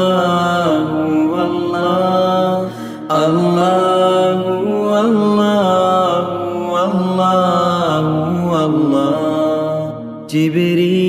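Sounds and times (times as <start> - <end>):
devotional chant singing: 0.0 - 11.0.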